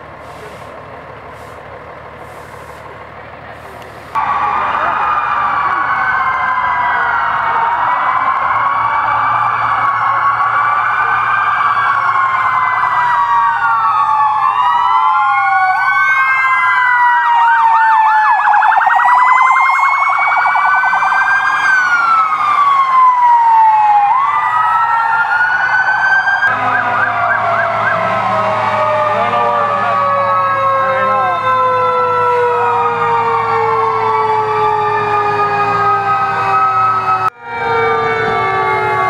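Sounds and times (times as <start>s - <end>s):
fire engine sirens wailing: 0.0s - 39.0s.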